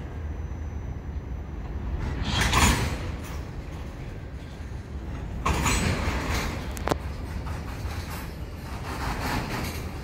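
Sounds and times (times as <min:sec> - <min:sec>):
freight train rolling on rails: 0:00.0 - 0:10.0
wheel and rail noise rush: 0:00.0 - 0:10.0.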